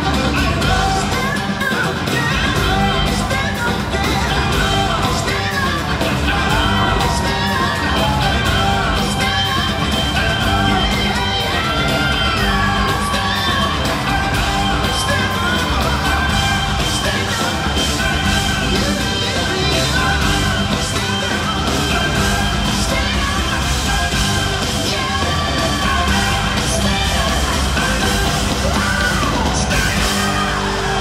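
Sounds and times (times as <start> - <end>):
crowd yelling along: 0.0 - 31.0
keyboards and drums: 0.0 - 31.0
man singing lead: 0.0 - 31.0.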